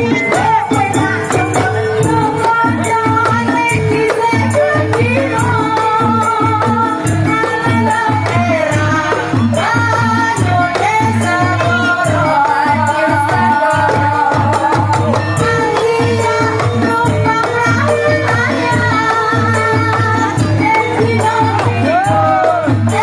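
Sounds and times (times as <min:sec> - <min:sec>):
fast drum rhythm: 0:00.0 - 0:23.0.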